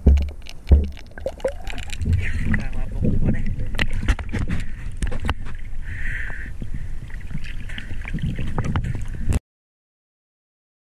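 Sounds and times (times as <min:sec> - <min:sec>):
water sloshing: 0:00.0 - 0:09.3.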